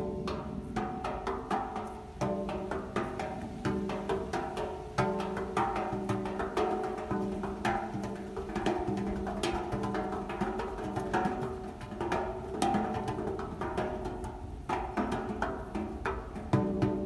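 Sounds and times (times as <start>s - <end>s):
percussive music: 0.0s - 17.0s.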